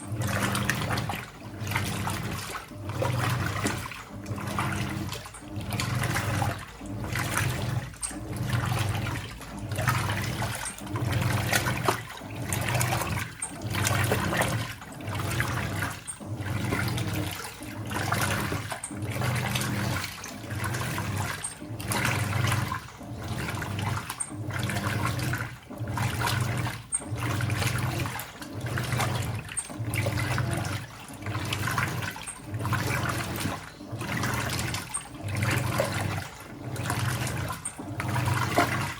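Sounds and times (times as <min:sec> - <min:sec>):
washing machine motor humming: 0:00.0 - 0:38.9
water sloshing: 0:00.0 - 0:38.9.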